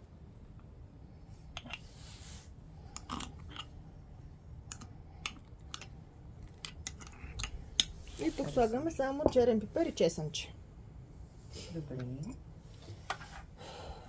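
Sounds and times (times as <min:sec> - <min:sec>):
faint low background rumble: 0:00.0 - 0:14.0.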